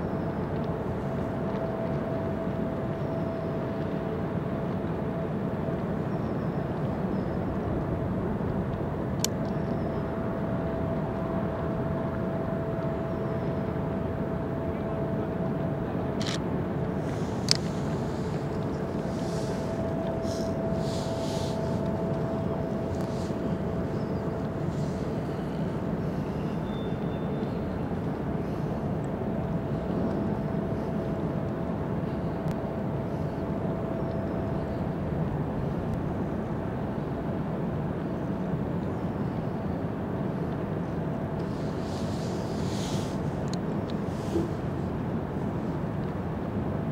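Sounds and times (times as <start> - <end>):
faint steady whine: 0.0 - 46.9
ship engines rumbling: 0.0 - 46.9.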